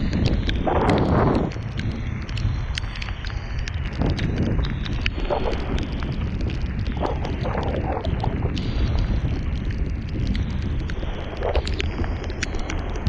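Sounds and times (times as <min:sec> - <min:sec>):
scattered sharp ticks: 0:00.0 - 0:13.0
wind noise on microphone: 0:00.0 - 0:13.0.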